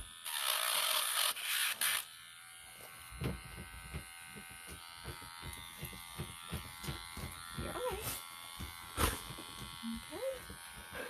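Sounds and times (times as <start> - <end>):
rotary tool grinding nail: 0.0 - 11.0
rotary tool motor humming: 0.0 - 11.0.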